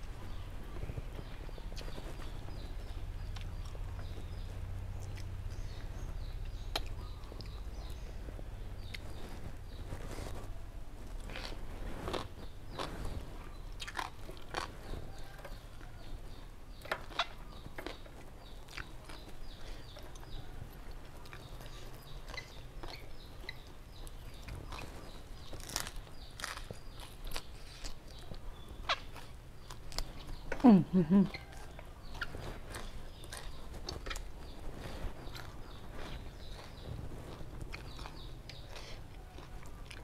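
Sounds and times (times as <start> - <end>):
chewing with crisp crunches: 0.0 - 40.0.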